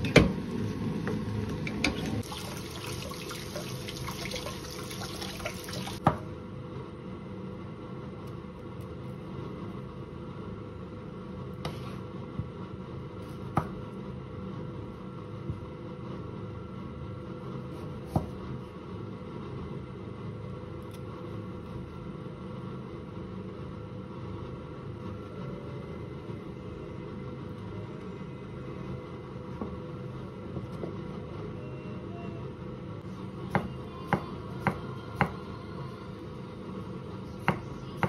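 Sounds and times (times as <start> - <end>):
low mechanical hum with hiss: 0.0 - 38.0.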